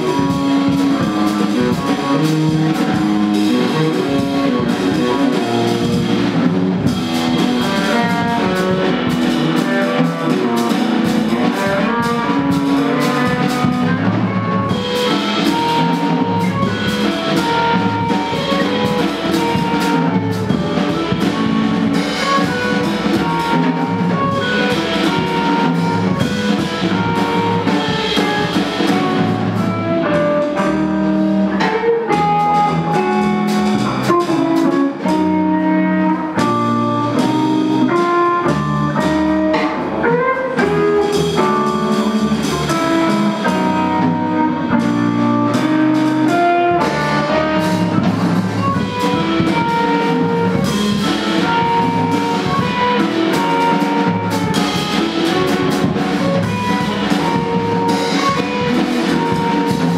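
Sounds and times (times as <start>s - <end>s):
drums and cymbals: 0.0s - 59.9s
guitar: 0.0s - 59.9s.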